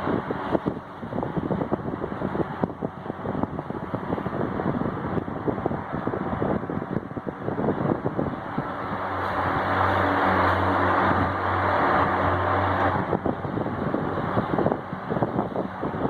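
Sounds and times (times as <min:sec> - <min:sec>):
wall fan running: 0:00.0 - 0:16.0
wind buffeting microphone: 0:00.0 - 0:16.0.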